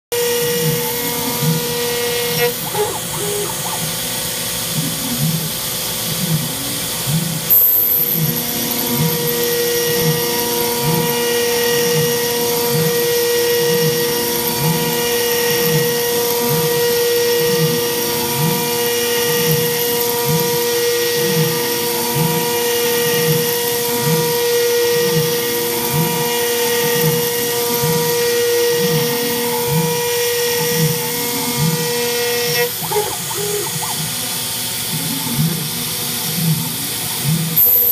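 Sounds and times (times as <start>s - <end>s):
cnc spindle cutting whine: 0.1s - 37.9s.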